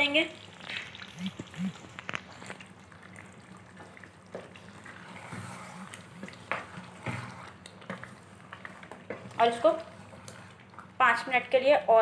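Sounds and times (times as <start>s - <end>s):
curry simmering in a pot: 0.0s - 11.8s.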